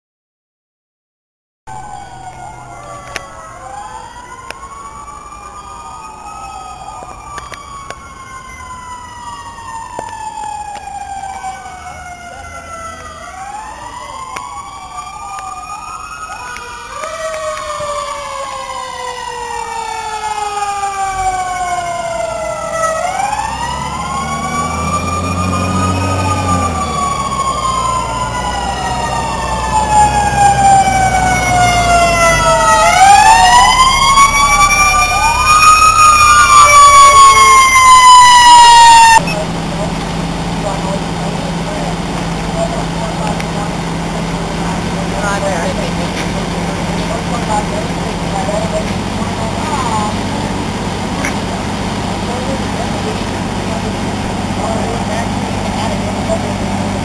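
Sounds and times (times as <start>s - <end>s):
fire truck sirens wailing: 1.7s - 57.0s
heavy truck engine rumbling: 1.7s - 57.0s.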